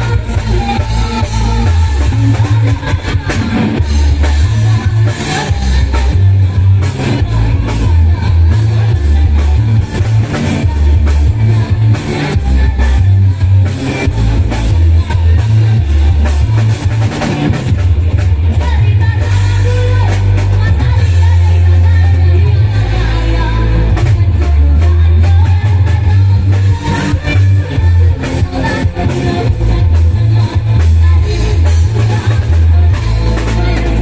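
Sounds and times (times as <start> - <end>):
bass line: 0.0 - 34.0
drums: 0.0 - 34.0
person singing: 0.0 - 34.0.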